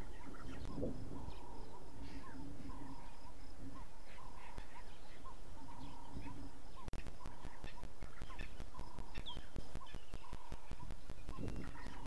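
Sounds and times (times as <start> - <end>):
repeated animal calls: 0.0 - 12.0.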